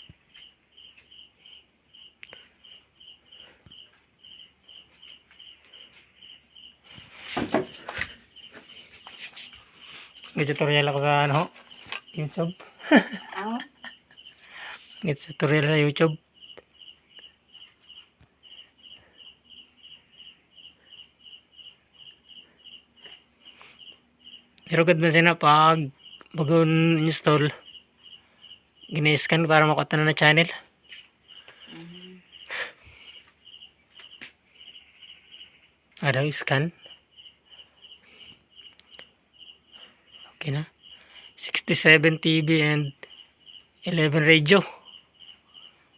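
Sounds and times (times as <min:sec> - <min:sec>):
cricket chirping: 0:00.0 - 0:45.9
faint high insect drone: 0:00.0 - 0:45.9.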